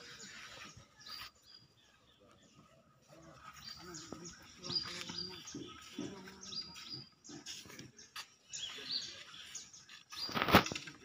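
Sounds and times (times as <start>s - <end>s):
birds chirping: 0.0s - 11.0s
faint voices of people: 0.0s - 11.0s.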